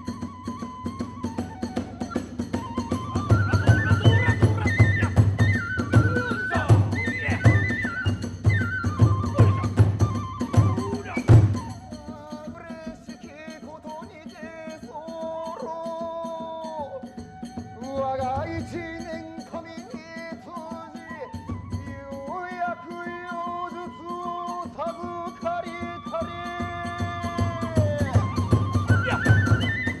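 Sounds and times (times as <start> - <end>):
soft steady drumming: 0.0 - 30.0.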